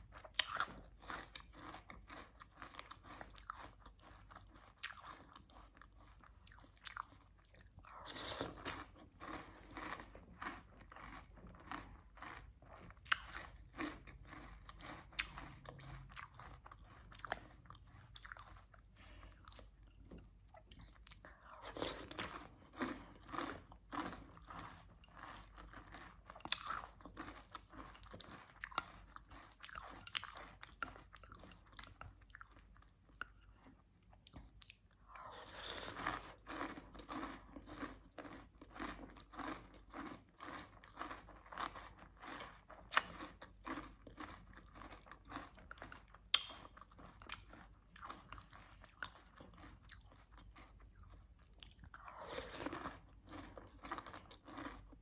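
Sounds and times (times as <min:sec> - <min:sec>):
chewing crunchy cereal: 0:00.0 - 0:55.0.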